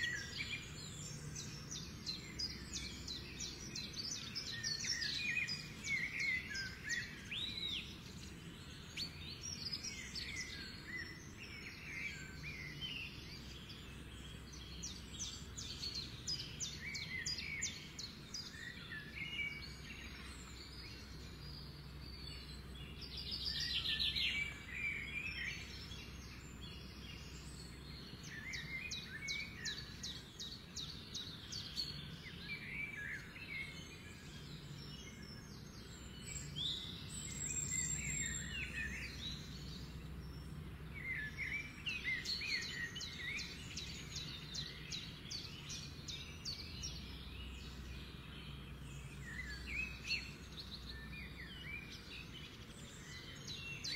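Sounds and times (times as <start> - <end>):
small birds chirping and singing: 0.0 - 53.9.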